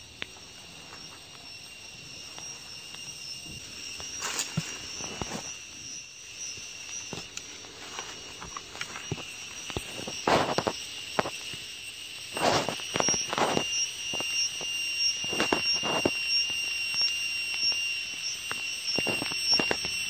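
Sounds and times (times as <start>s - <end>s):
high-pitched pulsing whine: 0.0s - 20.0s.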